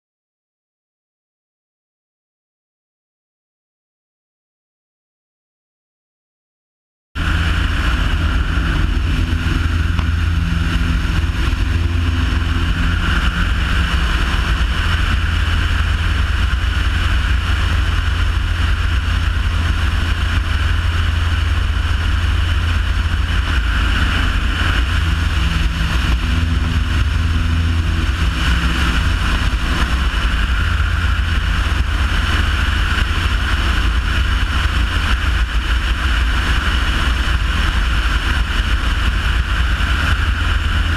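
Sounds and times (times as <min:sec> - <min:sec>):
propeller aircraft droning: 0:07.2 - 0:40.9
wind rushing over microphone: 0:07.2 - 0:40.9.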